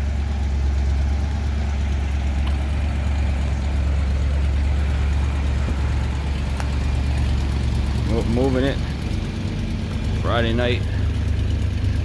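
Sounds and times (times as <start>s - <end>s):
motorhome engine idling: 0.0s - 12.0s.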